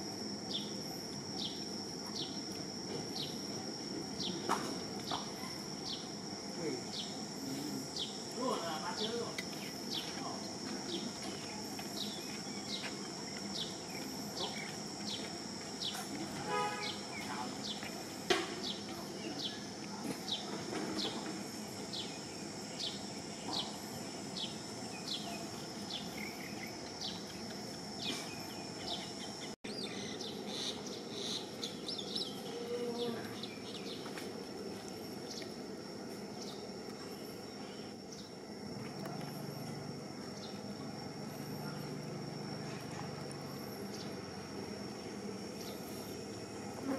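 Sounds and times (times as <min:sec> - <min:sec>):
insect chirps: 0:00.0 - 0:46.9
insects droning: 0:00.0 - 0:46.9.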